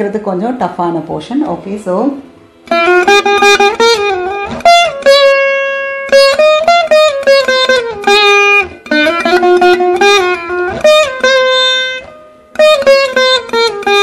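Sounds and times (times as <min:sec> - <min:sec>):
veena plucked notes: 0:00.0 - 0:14.0.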